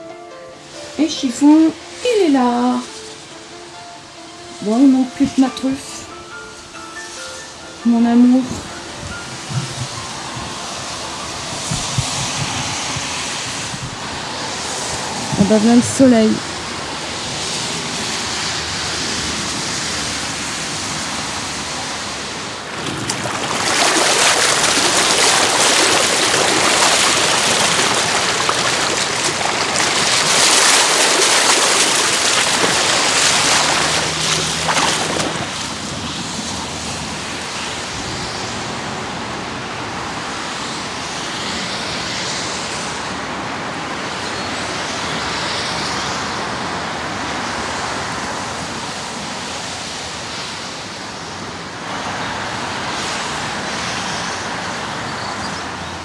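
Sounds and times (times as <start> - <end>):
floodwater rushing over ground: 0.0 - 56.0.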